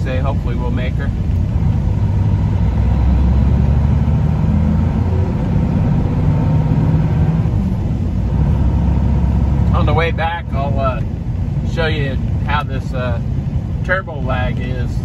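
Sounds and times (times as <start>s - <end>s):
diesel truck engine from inside cab: 0.0s - 15.0s.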